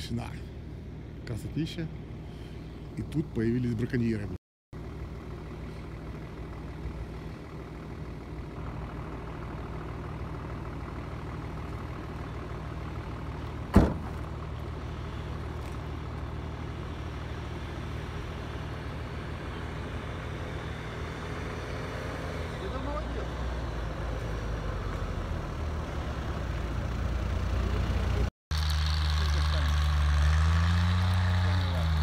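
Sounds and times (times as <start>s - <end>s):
off-road vehicle engine in snow: 0.0s - 32.0s.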